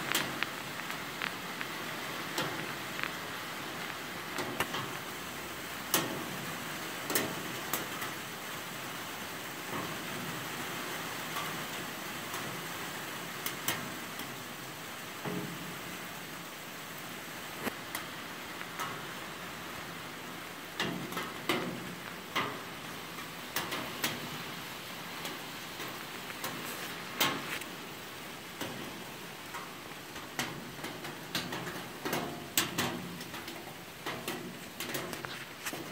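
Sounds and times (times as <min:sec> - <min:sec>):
pouring rain: 0:00.0 - 0:35.9.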